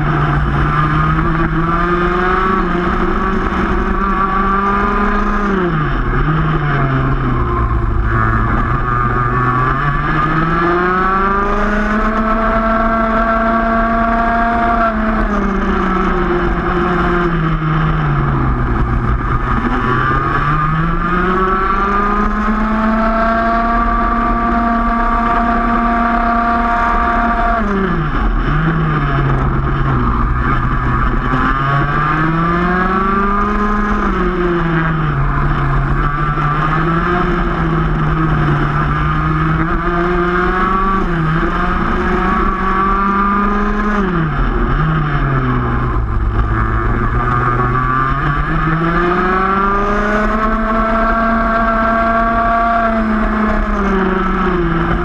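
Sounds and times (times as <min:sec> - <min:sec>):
two-stroke kart engine: 0:00.0 - 0:55.0.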